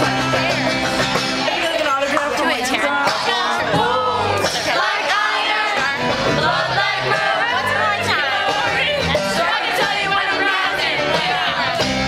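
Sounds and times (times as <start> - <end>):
instrumental accompaniment: 0.0 - 12.0.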